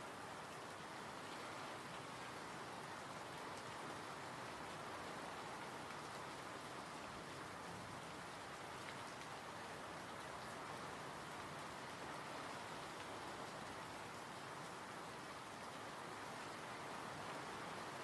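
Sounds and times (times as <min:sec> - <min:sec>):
gentle rain falling: 0:00.0 - 0:18.0.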